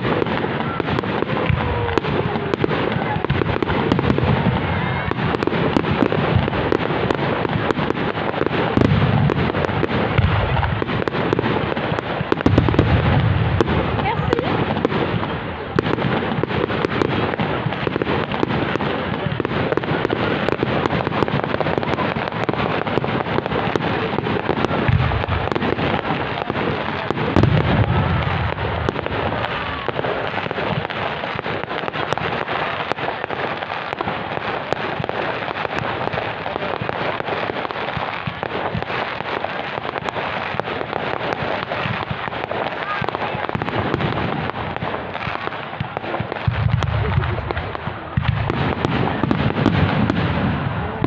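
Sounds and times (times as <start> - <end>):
deep firework booms: 0.0 - 51.0
fireworks crackling: 0.0 - 51.0.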